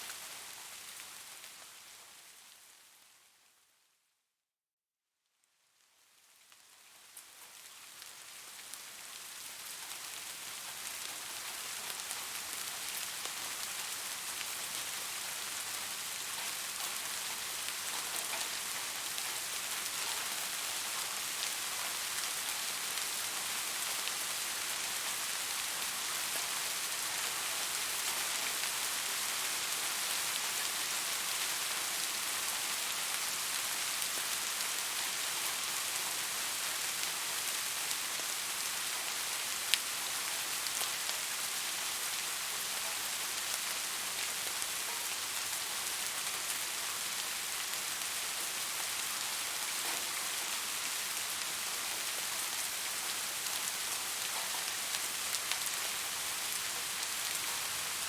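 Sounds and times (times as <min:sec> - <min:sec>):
steady rain falling: 0:00.0 - 0:04.0, 0:05.5 - 0:58.0.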